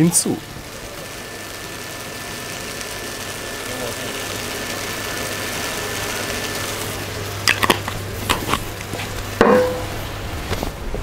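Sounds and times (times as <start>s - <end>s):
food sizzling in a frying pan: 0.0s - 10.2s
steady low hum: 0.0s - 11.0s.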